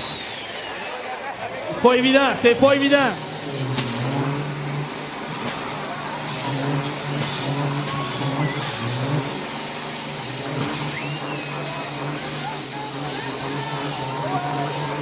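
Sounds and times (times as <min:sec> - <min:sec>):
diesel truck engines rumbling: 0:00.0 - 0:15.0
high-pitched whine: 0:00.0 - 0:15.0.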